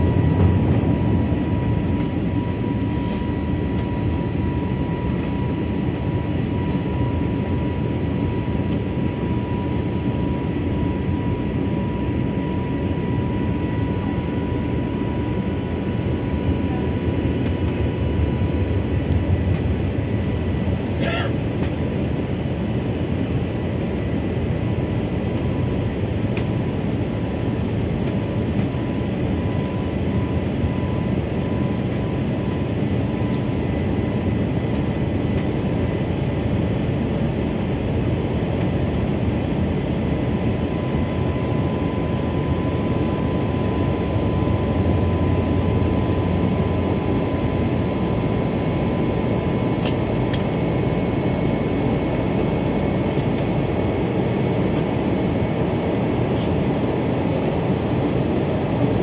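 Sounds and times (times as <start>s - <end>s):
airplane cabin engine noise: 0.0s - 59.0s
thin steady whine: 0.0s - 59.0s.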